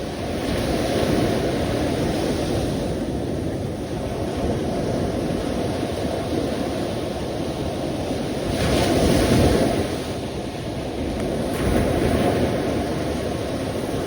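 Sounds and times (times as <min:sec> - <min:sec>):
sea surf washing in: 0:00.0 - 0:14.0.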